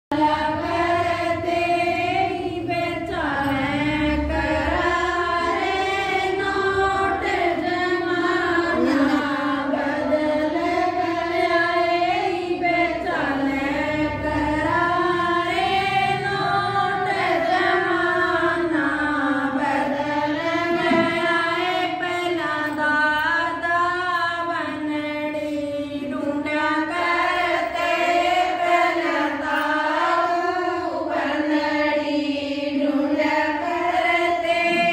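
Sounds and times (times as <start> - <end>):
women singing in unison: 0.1 - 34.9.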